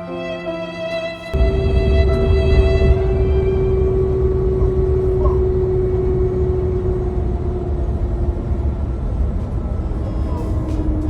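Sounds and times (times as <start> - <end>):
vehicle engine rumble: 1.3 - 11.0.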